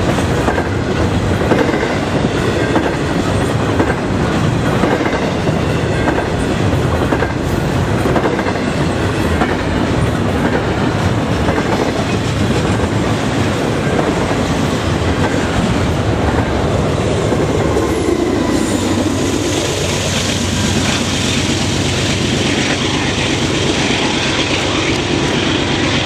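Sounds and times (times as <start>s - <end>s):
diesel locomotive engine hum: 0.0s - 26.0s
train wheels running over rails: 0.0s - 26.0s.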